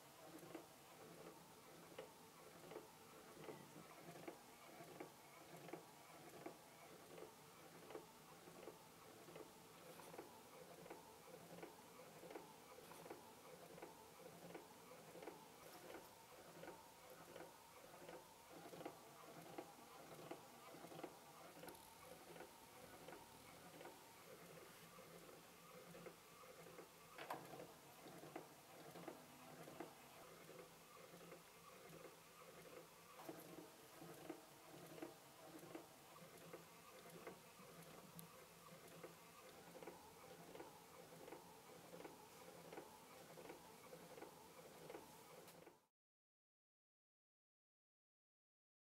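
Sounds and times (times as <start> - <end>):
clockwork ticking faintly: 0.0 - 45.8.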